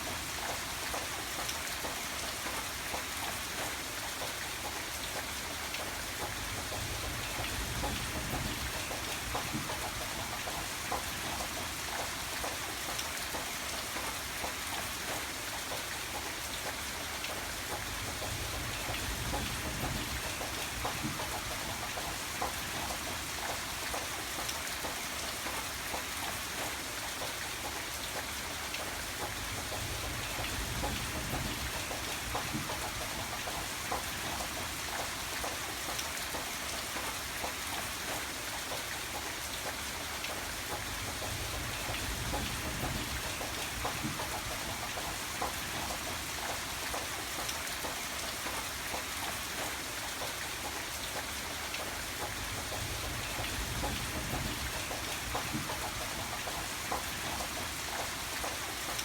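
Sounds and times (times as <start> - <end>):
rain drops ticking on a surface: 0.0 - 59.0.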